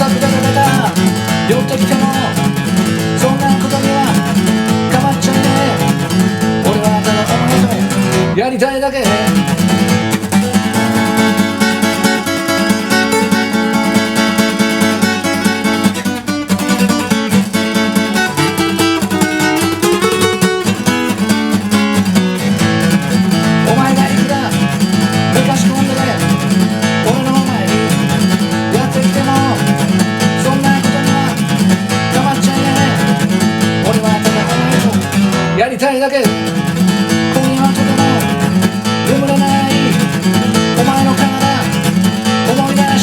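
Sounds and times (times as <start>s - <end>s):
acoustic guitar strumming: 0.0s - 43.0s
guitar lead lines: 0.0s - 43.0s.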